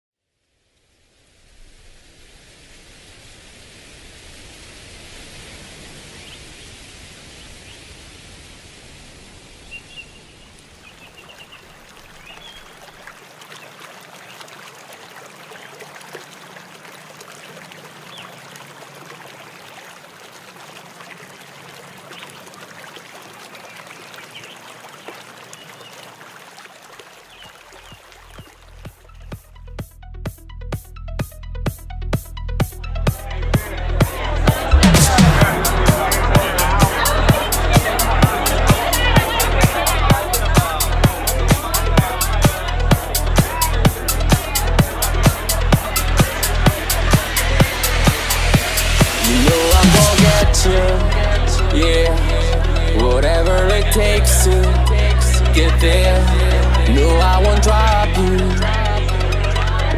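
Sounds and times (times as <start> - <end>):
running water: 0.7 - 29.9, 32.2 - 59.9.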